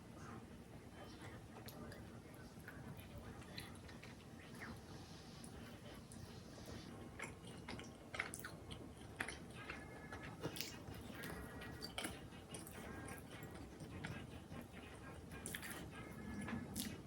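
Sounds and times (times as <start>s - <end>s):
person chewing food: 2.6s - 17.0s.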